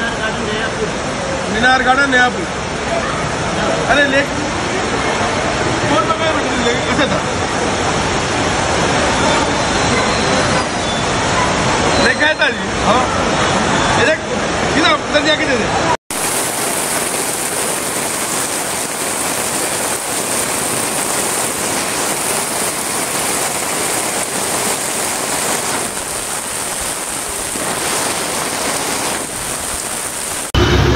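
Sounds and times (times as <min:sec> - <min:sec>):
heavy rain on flooded street: 0:00.0 - 0:30.9.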